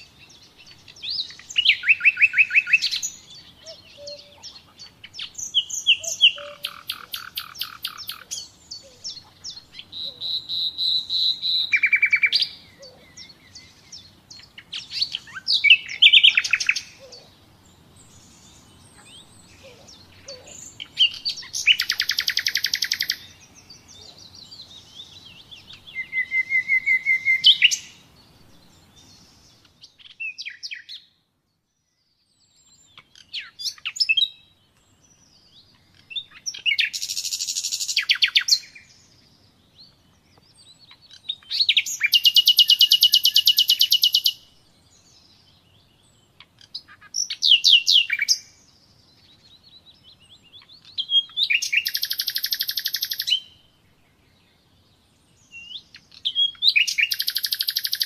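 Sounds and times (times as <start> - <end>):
nightingale singing: 0.0 - 58.0.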